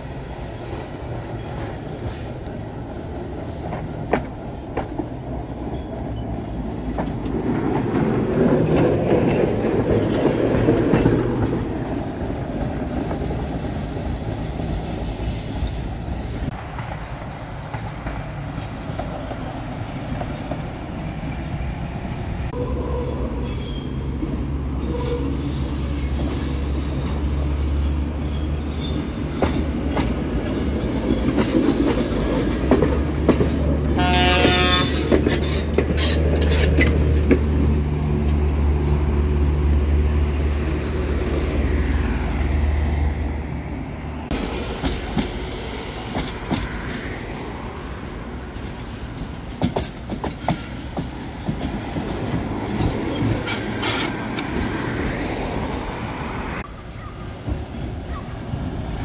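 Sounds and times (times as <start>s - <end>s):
tram wheel rumble: 0.0s - 59.0s.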